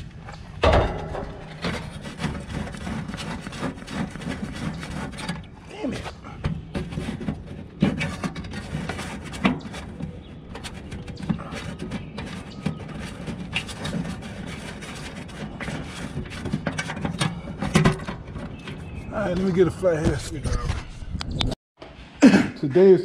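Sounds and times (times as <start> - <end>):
hands rubbing and rustling wires: 0.0 - 21.5.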